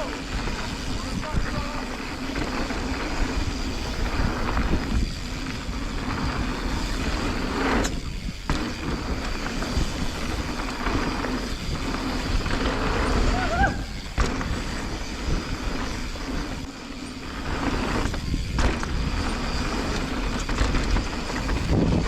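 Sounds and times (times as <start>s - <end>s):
bike frame and chain rattling: 0.0s - 22.0s
bike tyres on dirt: 0.0s - 22.0s
wind rumbling on microphone: 0.0s - 22.0s.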